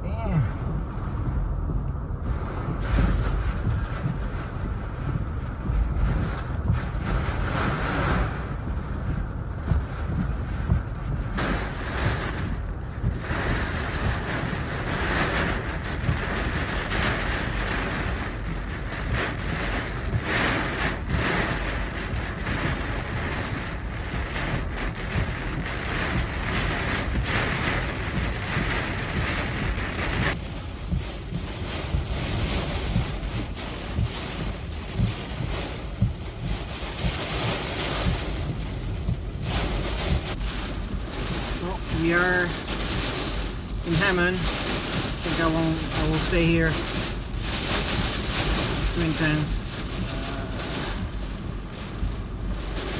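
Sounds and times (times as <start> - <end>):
strong wind buffeting microphone: 0.0 - 52.9.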